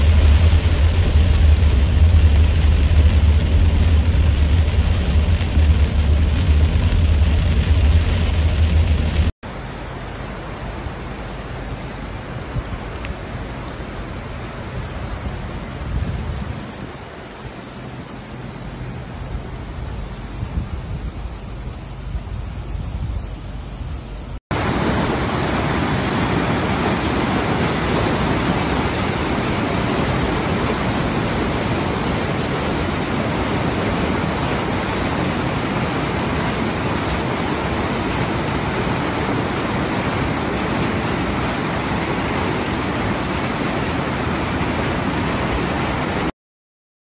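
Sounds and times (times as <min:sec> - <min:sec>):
floodwater rushing: 0:00.0 - 0:46.3.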